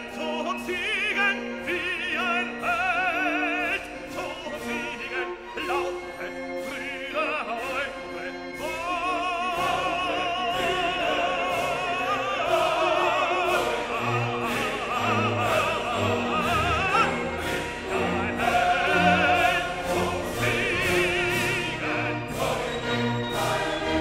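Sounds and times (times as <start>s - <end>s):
operatic singing voice: 0.0s - 24.0s
orchestral accompaniment: 0.0s - 24.0s.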